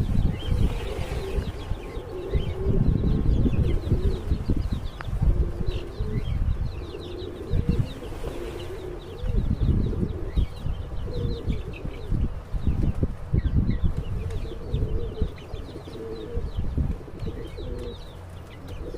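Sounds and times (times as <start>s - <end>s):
pigeons cooing: 0.0s - 18.9s.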